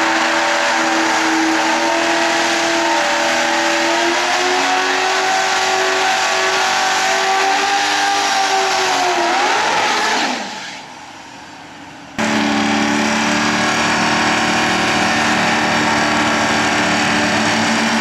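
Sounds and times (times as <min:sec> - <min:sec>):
car engine revving down: 0:00.0 - 0:10.7, 0:12.2 - 0:18.0
loud car engine held at steady revs: 0:00.0 - 0:18.0.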